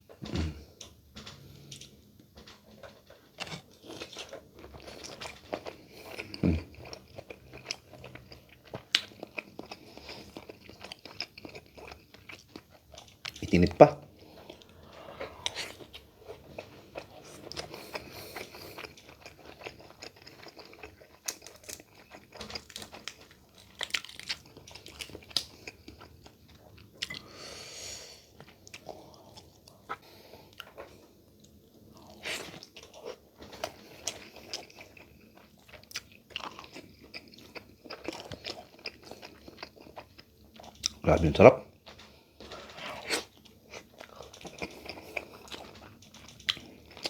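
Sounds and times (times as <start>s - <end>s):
chewing and crunching: 0.6s - 27.3s, 28.3s - 47.0s.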